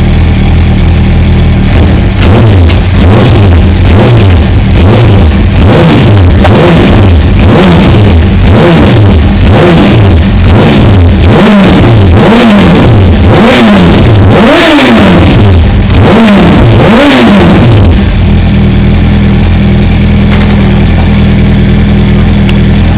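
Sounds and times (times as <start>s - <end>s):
motorcycle engine revving and idling: 0.0s - 22.9s.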